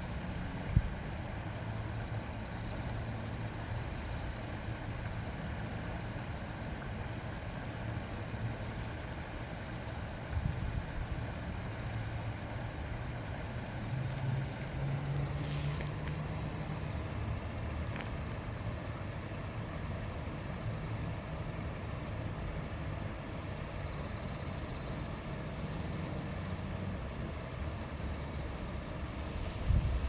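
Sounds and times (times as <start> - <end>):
shallow river babbling: 0.0 - 30.0.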